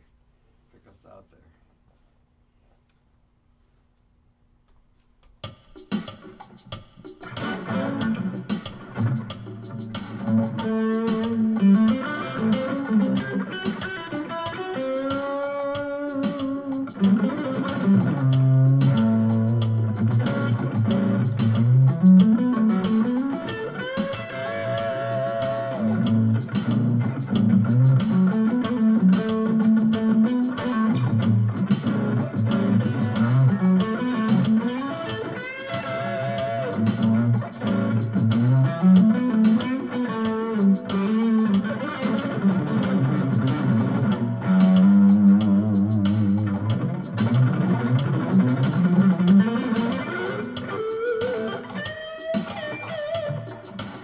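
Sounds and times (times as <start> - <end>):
drum machine groove: 5.2 - 54.0
electric guitar lead lines: 5.8 - 54.0.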